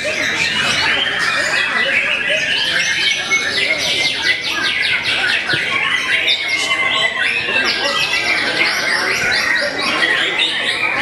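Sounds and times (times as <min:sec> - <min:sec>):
other birds singing: 0:00.0 - 0:11.0.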